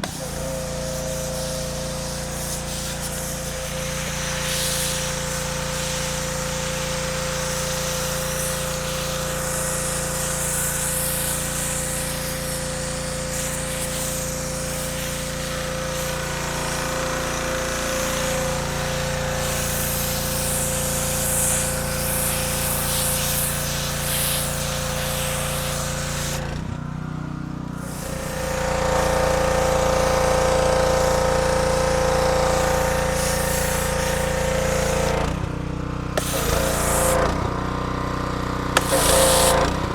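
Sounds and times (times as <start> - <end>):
water spray hissing: 0.0 - 26.6, 27.8 - 37.5, 38.7 - 39.9
pressure washer engine running: 0.0 - 39.9.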